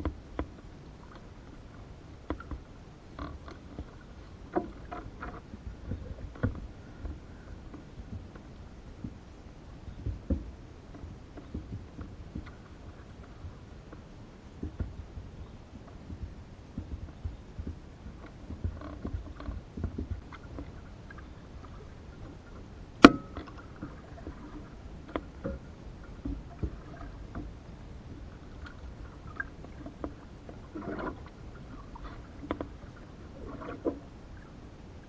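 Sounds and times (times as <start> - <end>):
paddle strokes in water: 0.0 - 35.0
light taps on canoe hull: 2.2 - 9.2, 9.8 - 32.9.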